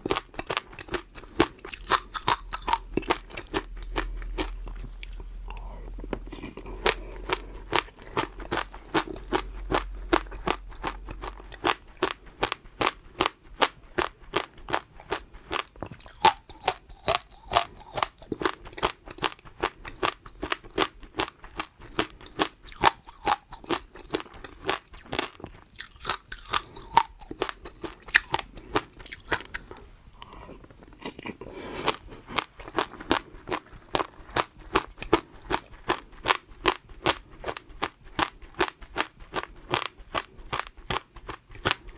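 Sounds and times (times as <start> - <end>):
chewing crunchy food: 0.0 - 41.9.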